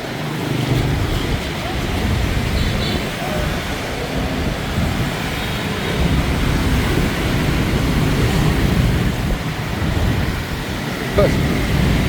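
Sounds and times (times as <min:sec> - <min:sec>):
heavy motorbike traffic rumble: 0:00.0 - 0:12.0.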